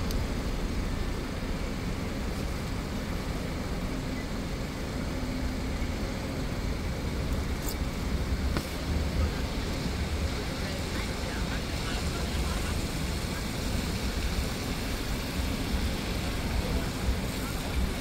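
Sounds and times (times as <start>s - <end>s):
heavy rain hissing: 0.0s - 18.0s
passing vehicles rumbling: 0.0s - 18.0s.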